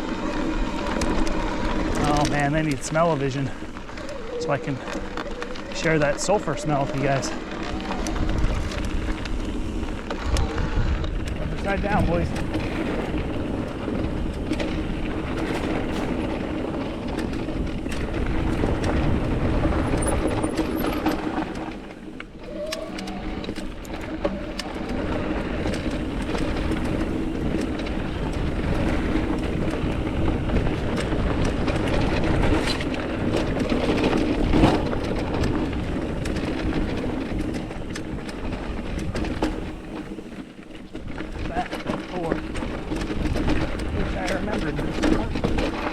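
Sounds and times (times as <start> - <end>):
wind on microphone: 0.0 - 39.9
bike rattling over bumps: 0.0 - 45.9
bike tyres rushing on trail: 0.0 - 45.9.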